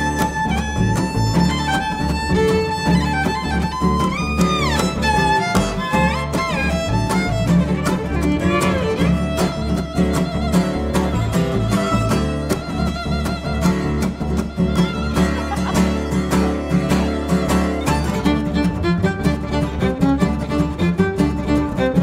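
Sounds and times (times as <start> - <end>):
fiddle with sliding notes: 0.0 - 22.0
plucked upright bass: 0.0 - 22.0
strummed rhythm: 0.0 - 22.0.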